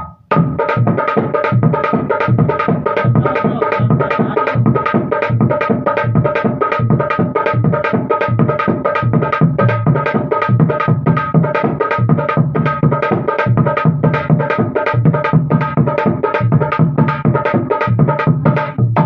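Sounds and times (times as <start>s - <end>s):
hand drum played fast: 0.0s - 19.0s.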